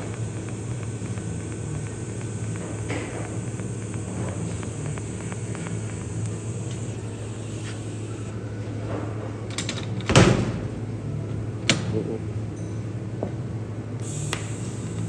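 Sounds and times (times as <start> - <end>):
welding arc humming and hissing: 0.0 - 8.8, 9.7 - 15.0.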